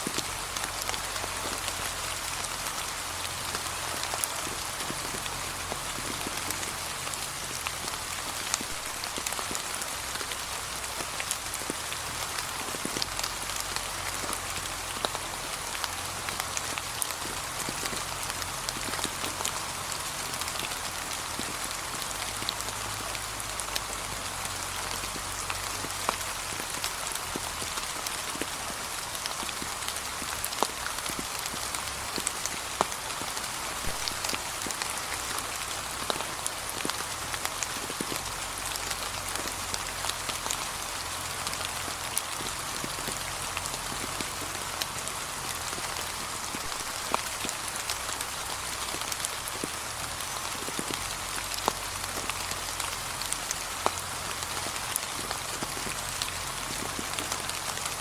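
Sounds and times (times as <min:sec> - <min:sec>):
rain falling on leaves: 0:00.0 - 0:58.0
raindrops ticking: 0:00.0 - 0:58.0.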